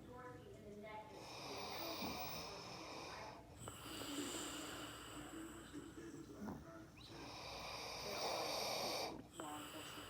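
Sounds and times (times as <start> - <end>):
faint snoring: 1.2 - 10.0.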